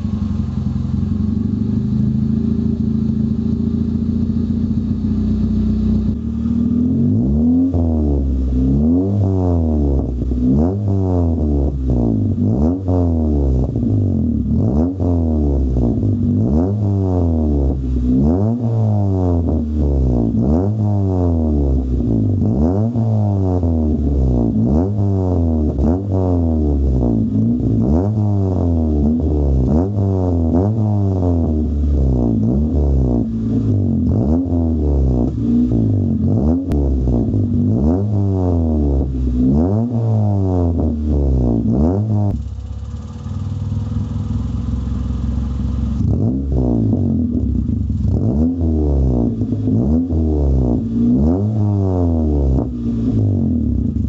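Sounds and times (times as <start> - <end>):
car engine idling: 0.0 - 10.6, 11.6 - 51.6, 52.2 - 54.0
car engine revving: 0.0 - 54.0
exhaust popping: 0.0 - 54.0.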